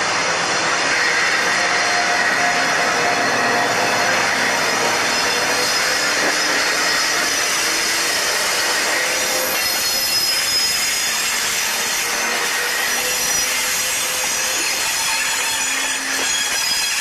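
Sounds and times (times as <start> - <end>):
freight train running noise: 0.0 - 17.0
train wheels squealing: 0.4 - 17.0.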